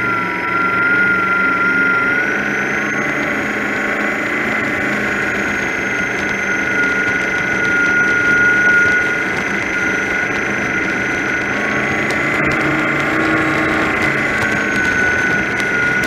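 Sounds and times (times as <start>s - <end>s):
high engine whine: 0.0s - 16.0s
powerboat engine drone: 0.0s - 16.0s.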